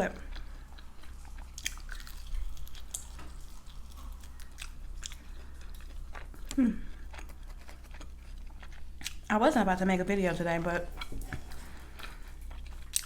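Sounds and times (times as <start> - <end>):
chewing chicken wings: 0.0 - 9.6, 10.4 - 13.0.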